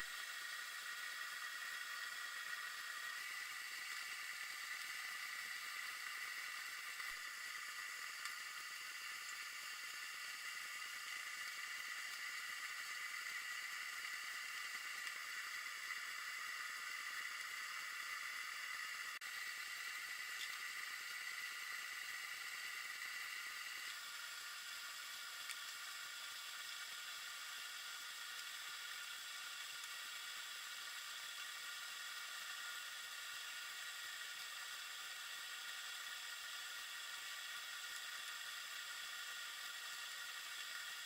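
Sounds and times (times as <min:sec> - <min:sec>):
underwater hiss: 0:00.0 - 0:41.0.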